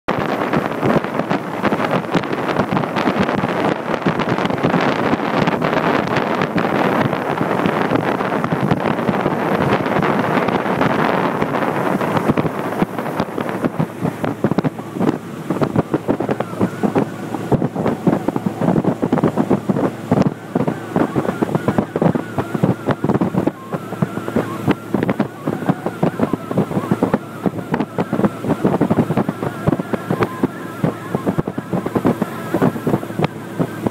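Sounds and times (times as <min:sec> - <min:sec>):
wind buffeting microphone: 0:00.1 - 0:33.9
small boat motor running: 0:00.2 - 0:33.9.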